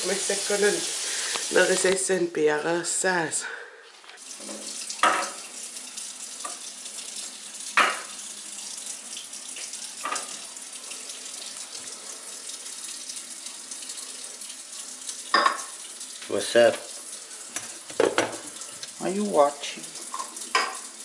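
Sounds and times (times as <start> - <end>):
tap water running into sink: 0.0 - 2.2, 4.2 - 21.0.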